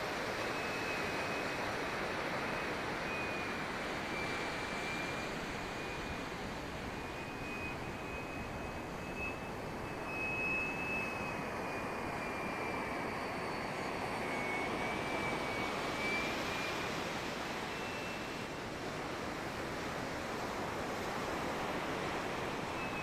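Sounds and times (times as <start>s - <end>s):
high fan whine: 0.0s - 23.0s.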